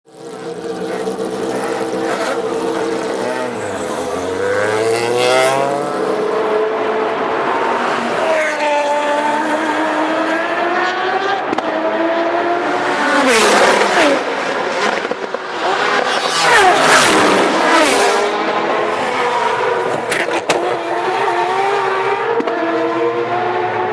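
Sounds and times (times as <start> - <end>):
race car engine revving: 0.1 - 23.9.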